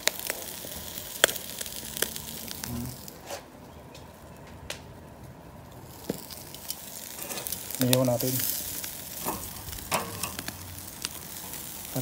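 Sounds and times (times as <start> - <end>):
meat sizzling over charcoal: 0.0 - 12.0
sharp crackles and pops: 0.0 - 12.0.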